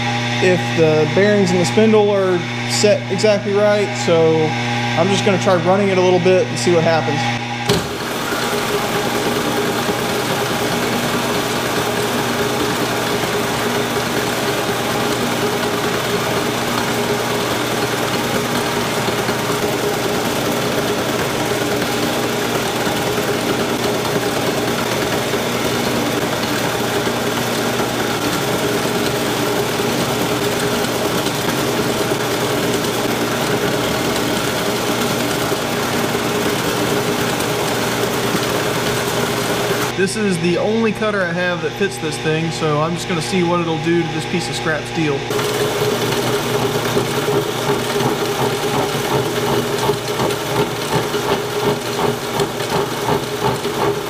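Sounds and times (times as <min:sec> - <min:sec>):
milling machine humming: 0:00.0 - 0:54.0.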